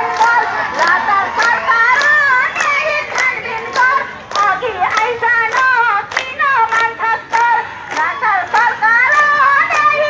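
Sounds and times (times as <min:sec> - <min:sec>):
crowd clapping in rhythm: 0:00.0 - 0:10.0.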